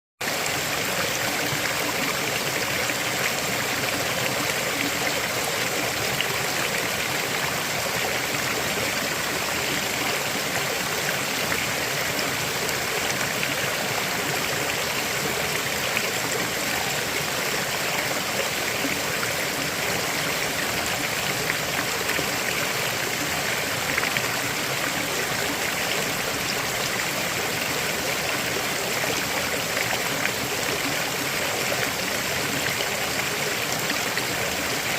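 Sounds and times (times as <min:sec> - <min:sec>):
river water flowing over rocks: 0:00.2 - 0:34.9.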